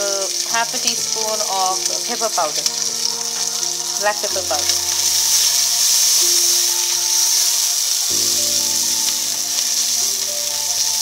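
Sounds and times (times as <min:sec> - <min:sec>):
background music of held chords: 0:00.0 - 0:11.0
onions sizzling in a pan: 0:00.0 - 0:11.0.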